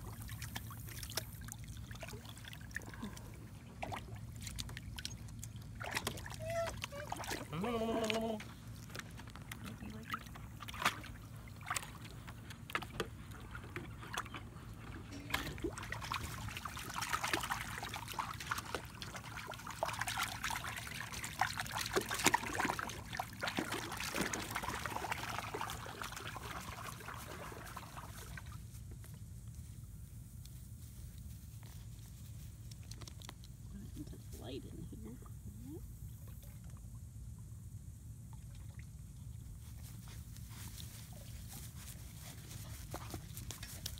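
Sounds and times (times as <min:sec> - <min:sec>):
water splashing in plastic pool: 0:00.0 - 0:30.0, 0:30.8 - 0:37.2, 0:38.2 - 0:43.9.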